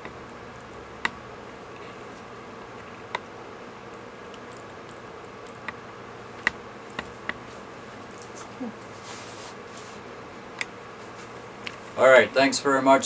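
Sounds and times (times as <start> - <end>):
room hiss with faint hum: 0.0 - 13.0.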